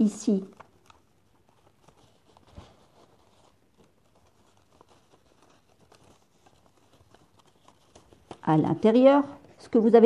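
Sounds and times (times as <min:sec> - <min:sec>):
book pages rustling and ticking: 0:00.0 - 0:10.0.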